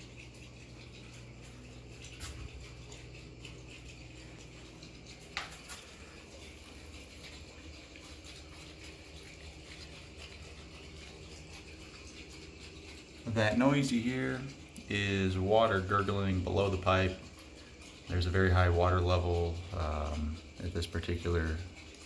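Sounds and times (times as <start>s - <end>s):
water gurgling in pipe: 0.0s - 22.0s.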